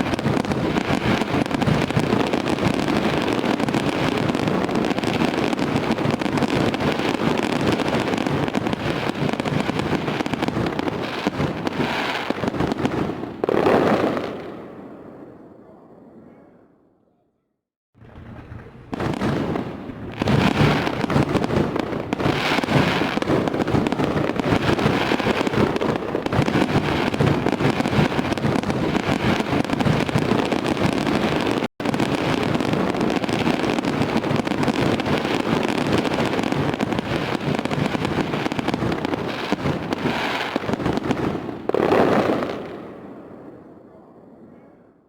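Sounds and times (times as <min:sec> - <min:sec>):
fireworks bangs and crackling: 0:00.0 - 0:16.2, 0:18.0 - 0:43.8.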